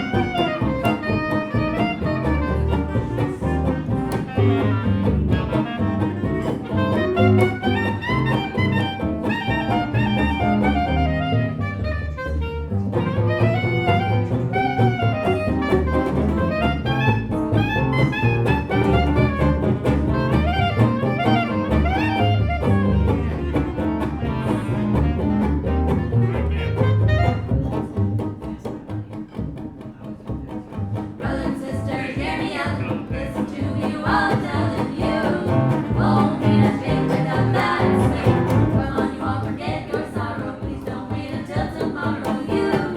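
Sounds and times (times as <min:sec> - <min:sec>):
live jazz band playing: 0:00.0 - 0:28.7, 0:33.2 - 0:39.4
bass: 0:00.0 - 0:42.9.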